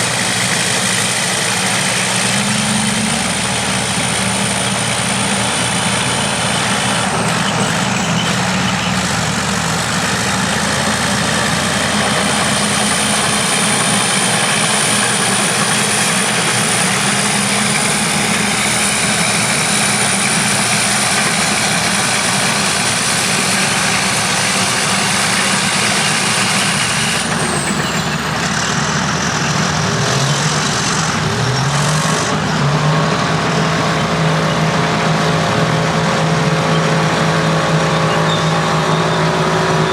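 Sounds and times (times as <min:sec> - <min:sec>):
heavy bulldozer engines running: 0:00.0 - 0:39.9.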